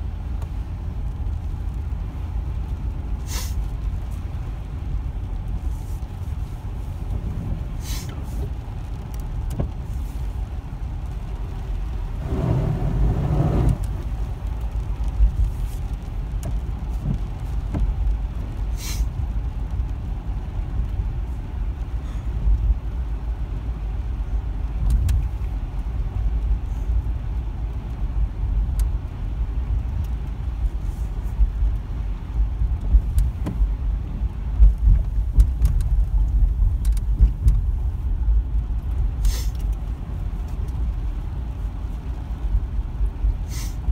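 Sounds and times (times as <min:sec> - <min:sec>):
car driving on wet road: 0:00.0 - 0:43.9.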